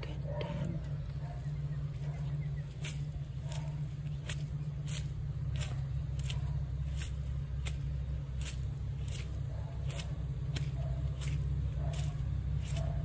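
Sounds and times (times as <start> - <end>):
footsteps squelching on wet grass: 0.0 - 13.0
steady low rumble: 0.0 - 13.0.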